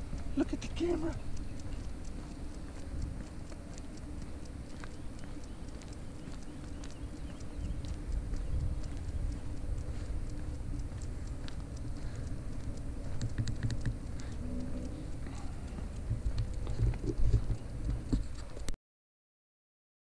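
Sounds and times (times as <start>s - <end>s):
steady low rumble: 0.0s - 18.7s
footsteps on sidewalk: 0.0s - 18.8s
light clicks: 0.0s - 18.8s.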